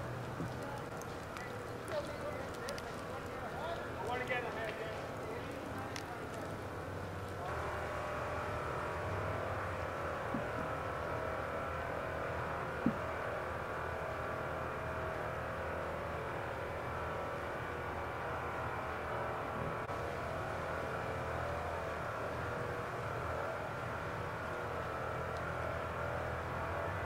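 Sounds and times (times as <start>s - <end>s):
burning wood snapping: 0.0s - 26.6s
engine-like drone: 0.0s - 27.0s.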